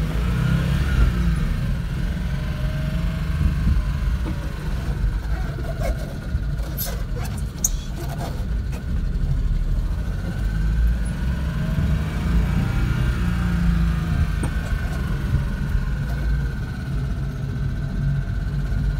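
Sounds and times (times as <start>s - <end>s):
small car engine rumbling: 0.0s - 18.9s.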